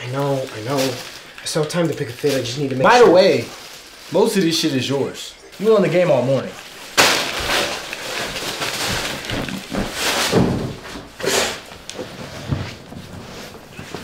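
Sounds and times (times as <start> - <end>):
plastic bag rustling: 0.0 - 14.0.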